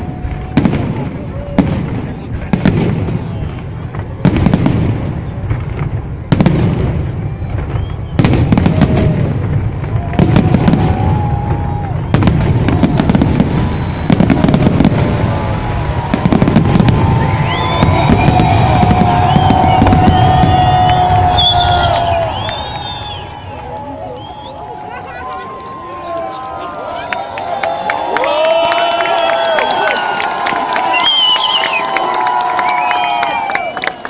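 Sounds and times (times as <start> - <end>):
fireworks bangs: 0.0 - 27.9
crowd voices: 0.0 - 34.0
fireworks crackling: 0.0 - 34.0.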